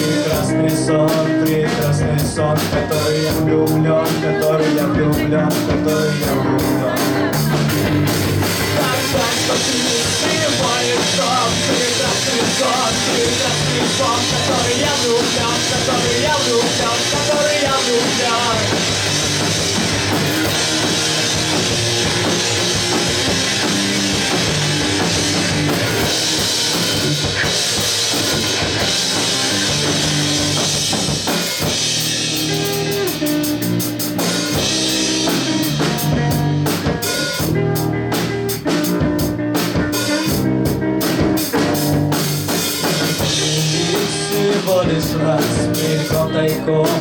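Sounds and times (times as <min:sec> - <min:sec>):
live rock band instrumental: 0:00.0 - 0:47.0.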